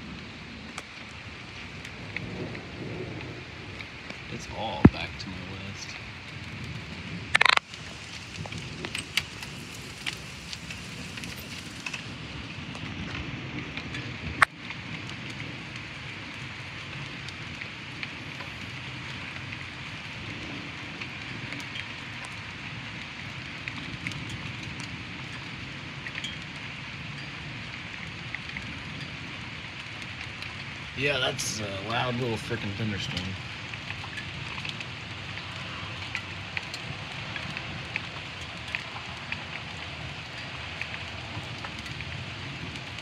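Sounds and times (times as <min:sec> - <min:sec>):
crackling drips: 0:00.0 - 0:43.0
light rain on leaves: 0:00.0 - 0:43.0.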